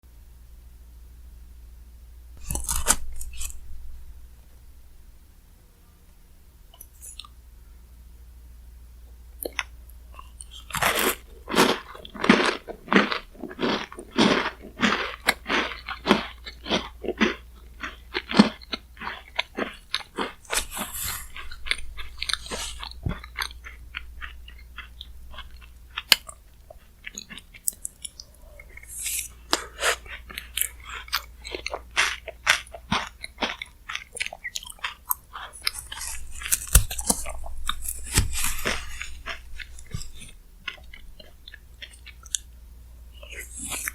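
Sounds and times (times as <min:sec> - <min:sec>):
chewing and crunching: 0:02.4 - 0:04.1, 0:09.4 - 0:43.9.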